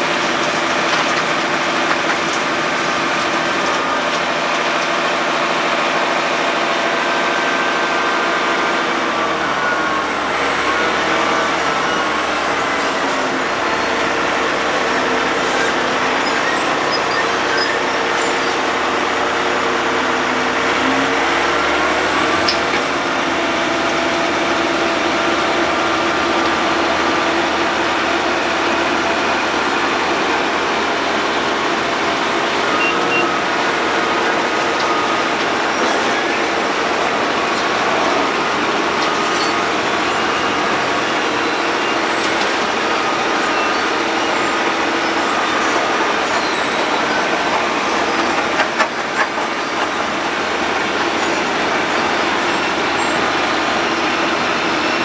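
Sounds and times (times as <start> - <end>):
road planing machine milling: 0.0 - 55.0.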